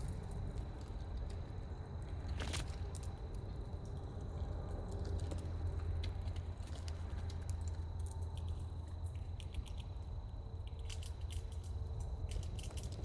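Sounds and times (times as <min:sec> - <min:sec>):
squirrel gnawing food: 0:00.0 - 0:13.0.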